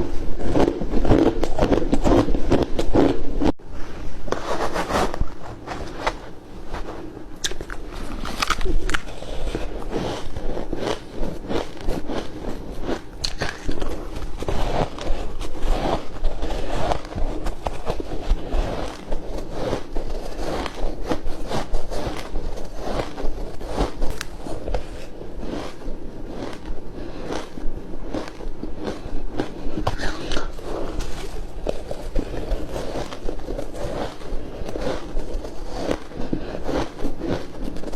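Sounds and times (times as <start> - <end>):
ice crunching while chewed: 0.0 - 3.5, 4.6 - 37.9.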